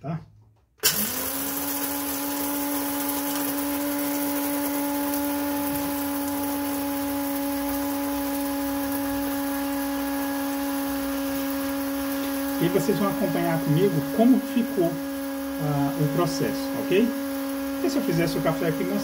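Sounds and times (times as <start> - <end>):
coffee grinder grinding beans: 0.8 - 19.0.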